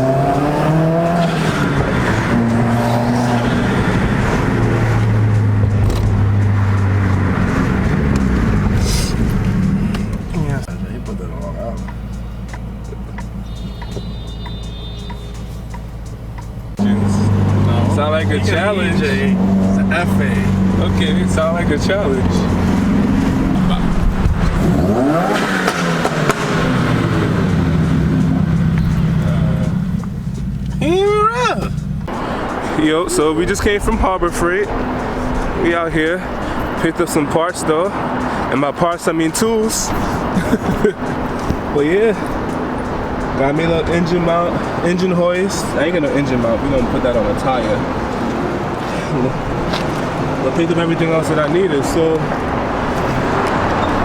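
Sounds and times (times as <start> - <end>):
car engine accelerating: 0.0 - 54.0
road noise: 0.0 - 54.0.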